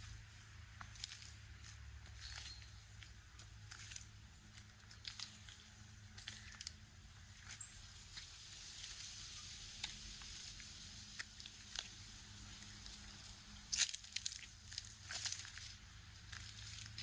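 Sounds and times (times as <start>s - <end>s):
steady low hum: 0.0s - 17.0s
footsteps crunching on grit: 0.8s - 9.1s, 9.8s - 17.0s.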